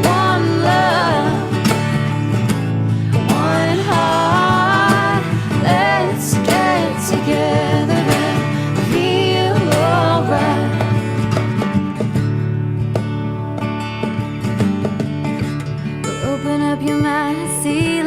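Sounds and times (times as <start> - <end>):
upbeat song with guitar: 0.0 - 18.0.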